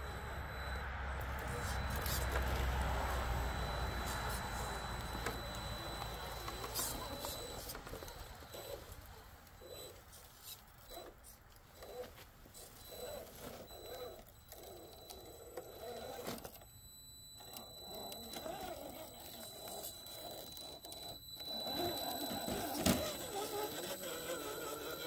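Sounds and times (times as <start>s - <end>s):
rc car motor whining: 0.0s - 25.0s.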